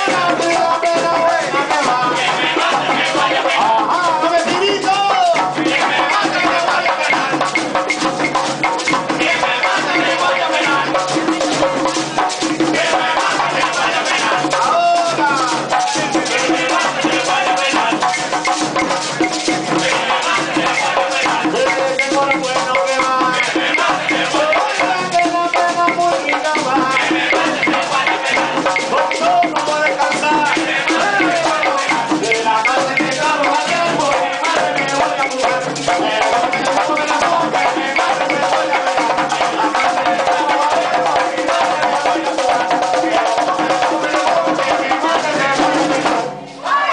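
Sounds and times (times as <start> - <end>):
frame drums beating fast rhythm: 0.0 - 46.9
voices singing: 0.0 - 46.9.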